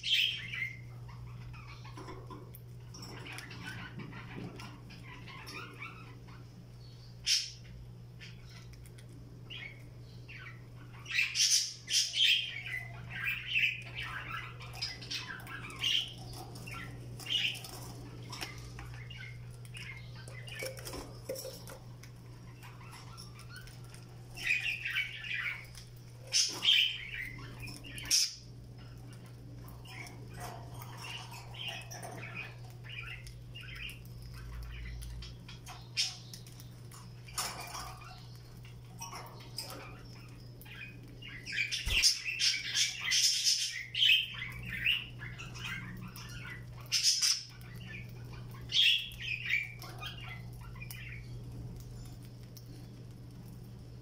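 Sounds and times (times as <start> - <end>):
budgerigars chattering and squawking: 0.0 - 52.9
steady low hum: 0.0 - 54.0.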